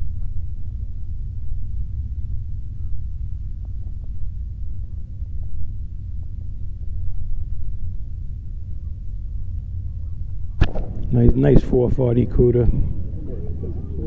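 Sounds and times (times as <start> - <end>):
faint steady hum: 0.0 - 14.0
low uneven rumble: 0.0 - 14.0.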